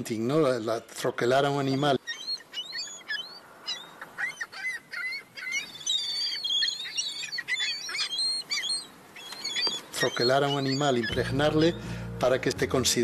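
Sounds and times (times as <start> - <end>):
seabird chicks peeping: 0.4 - 12.0.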